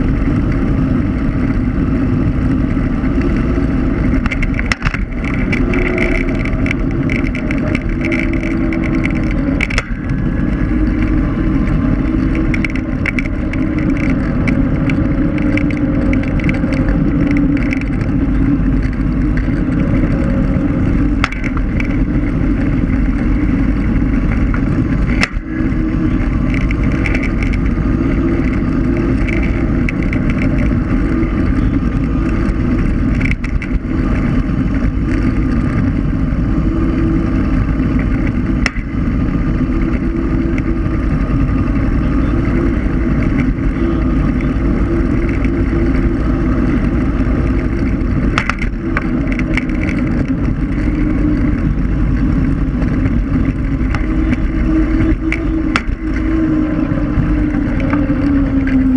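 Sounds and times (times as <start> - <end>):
tyre rumble: 0.0 - 58.9
wind noise on microphone: 0.0 - 58.9.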